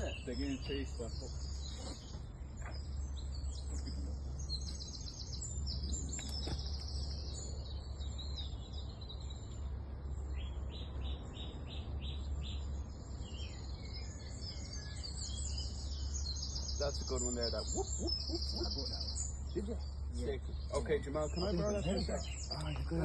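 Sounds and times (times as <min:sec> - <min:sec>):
birds singing and chirping: 0:00.0 - 0:23.0.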